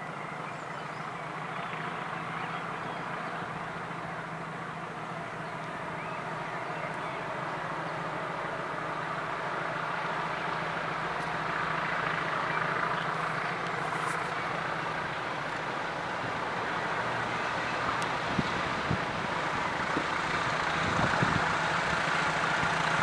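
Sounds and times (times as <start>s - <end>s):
diesel locomotive engines thrashing: 1.4s - 23.0s.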